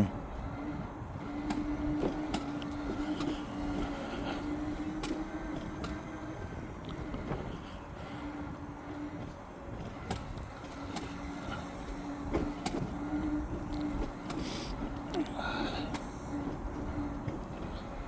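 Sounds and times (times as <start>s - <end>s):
hum: 0.0s - 18.0s
road and engine rumble: 0.0s - 18.0s.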